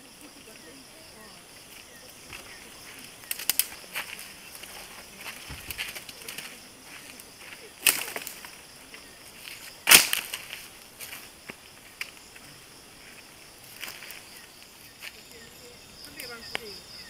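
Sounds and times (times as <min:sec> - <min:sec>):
night insects droning: 0:00.0 - 0:17.0.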